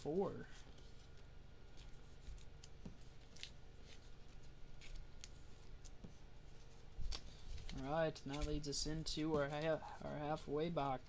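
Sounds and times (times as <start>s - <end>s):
cards and packaging rustling: 0.6s - 11.0s.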